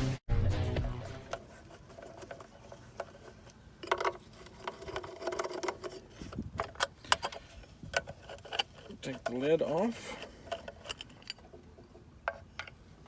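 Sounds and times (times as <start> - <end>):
tools clicking and rattling on pump: 1.2 - 13.0.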